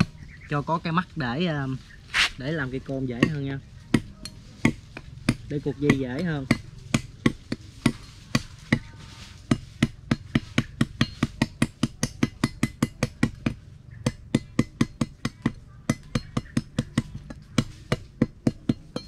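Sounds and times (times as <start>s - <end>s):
machete chopping bamboo: 2.1s - 19.0s.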